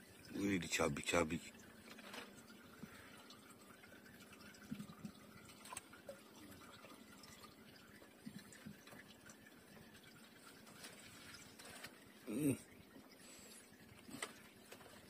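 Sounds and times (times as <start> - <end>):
water drips and small splashes: 0.0 - 15.0.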